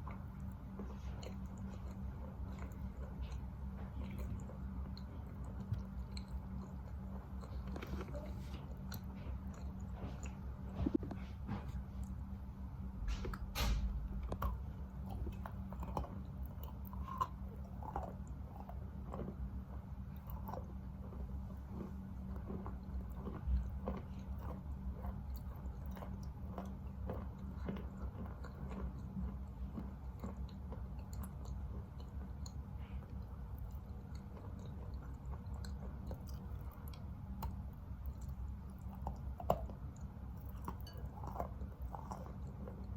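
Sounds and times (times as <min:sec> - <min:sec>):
gritty chewing crunches: 0:00.0 - 0:42.9.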